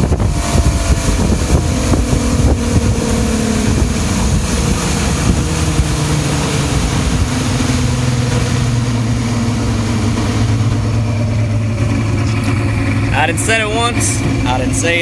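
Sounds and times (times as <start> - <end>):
outboard motor running: 0.0 - 15.0
wind noise on microphone: 0.0 - 15.0.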